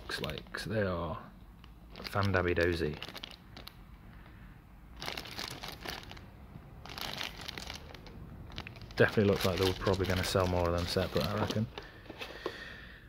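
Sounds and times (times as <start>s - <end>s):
plastic bags crinkling: 0.0s - 0.8s, 1.6s - 4.3s, 4.9s - 12.6s.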